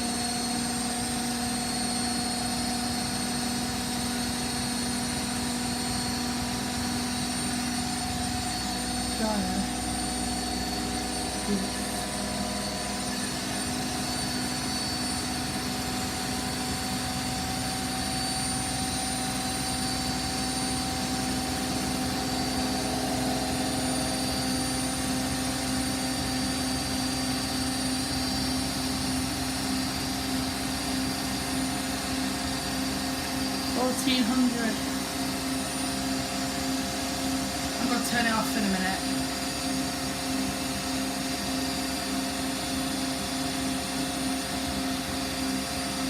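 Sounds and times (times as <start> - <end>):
washing machine spinning: 0.0 - 46.0.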